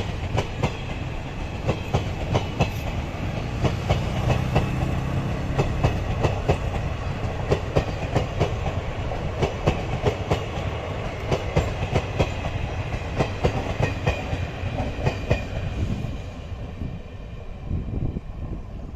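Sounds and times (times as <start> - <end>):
train wheels clicking over rail joints: 0.0 - 16.1
train rumble: 0.0 - 18.9.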